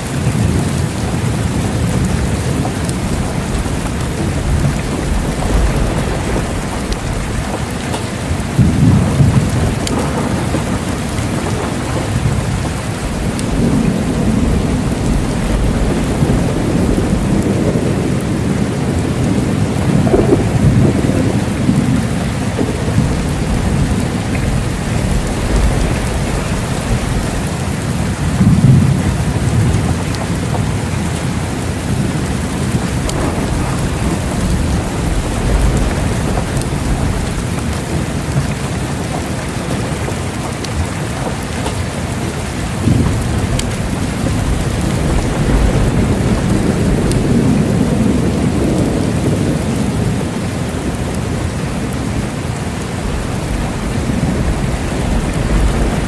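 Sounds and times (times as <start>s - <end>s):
rolling thunder: 0.0s - 56.0s
steady rain: 0.0s - 56.0s.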